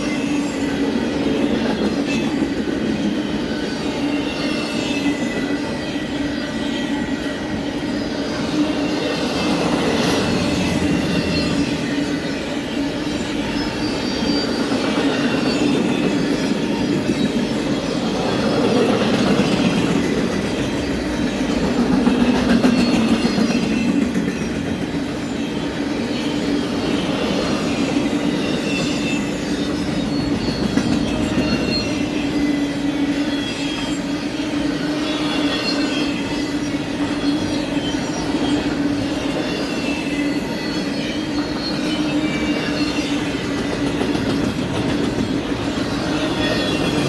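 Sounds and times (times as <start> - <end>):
freight train wheels rumbling: 0.0 - 47.0
high-pitched wheel squeals: 3.0 - 20.0, 25.3 - 47.0.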